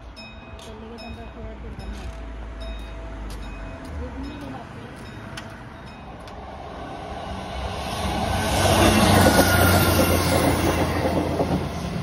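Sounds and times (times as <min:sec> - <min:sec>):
passenger train passing: 0:00.0 - 0:12.0.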